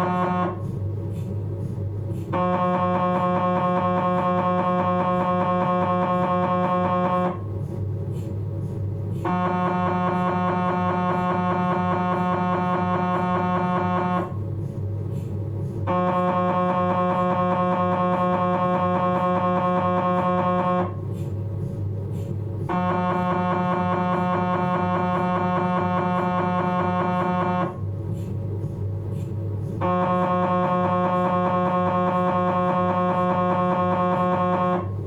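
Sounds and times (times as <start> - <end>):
low hum: 0.0 - 35.0
mri scanner buzzing drone: 0.0 - 35.0.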